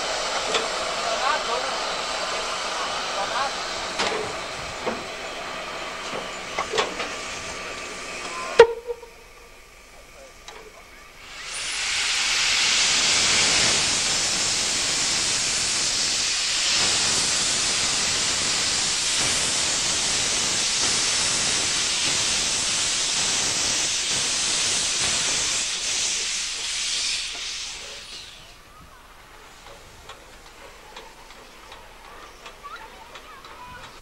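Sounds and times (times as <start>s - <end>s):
steam locomotive venting steam: 0.0s - 34.0s.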